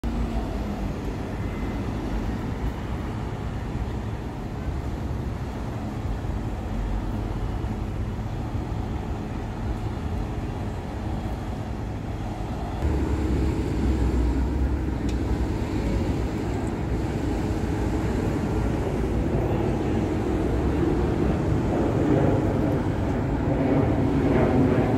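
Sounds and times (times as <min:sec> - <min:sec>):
people-mover car rumbling: 0:00.0 - 0:24.9.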